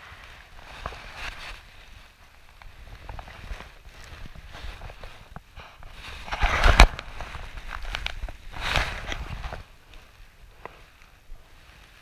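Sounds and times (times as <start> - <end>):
fabric rustling on microphone: 0.0 - 12.0.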